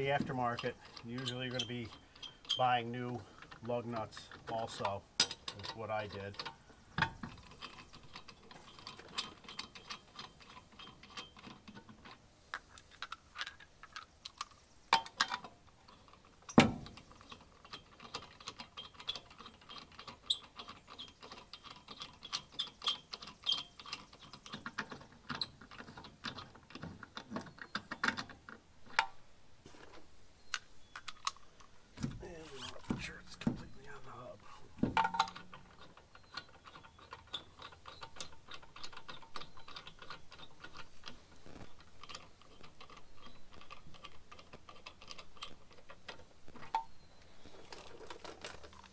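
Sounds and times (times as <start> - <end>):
metal lug nuts clinking: 0.0 - 45.2.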